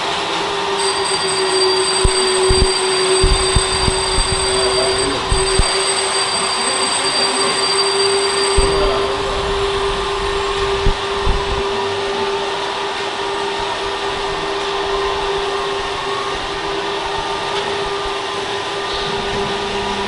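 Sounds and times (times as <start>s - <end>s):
hydraulic pump whine: 0.0s - 20.0s.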